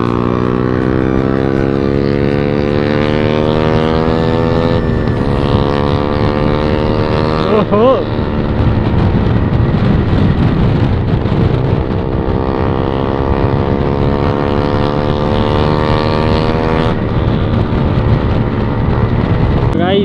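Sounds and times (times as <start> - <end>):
motorcycle engine cruising: 0.0 - 20.0
wind on microphone: 0.0 - 20.0.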